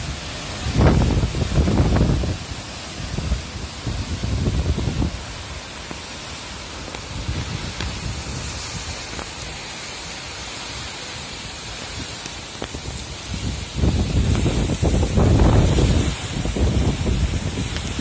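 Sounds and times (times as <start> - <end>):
wind buffeting microphone: 0.0 - 9.4, 11.6 - 18.0
heavy rain pouring: 0.0 - 18.0.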